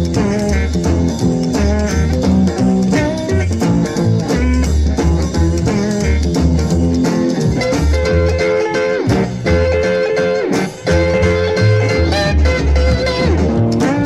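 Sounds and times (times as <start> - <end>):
drum kit: 0.0 - 14.0
pulsing bass line: 0.0 - 14.0
slide steel guitar: 0.0 - 14.0.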